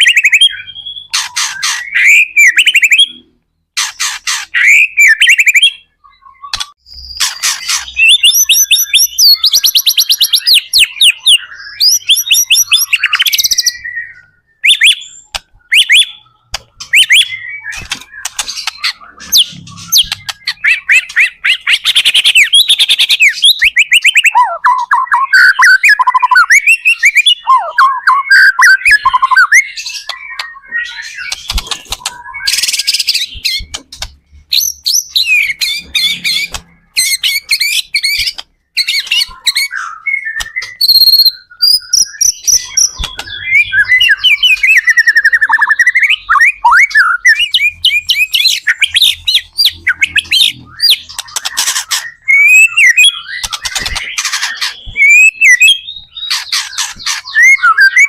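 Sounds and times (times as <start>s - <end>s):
songbird whistling and trilling: 0.0s - 33.9s, 34.5s - 58.0s.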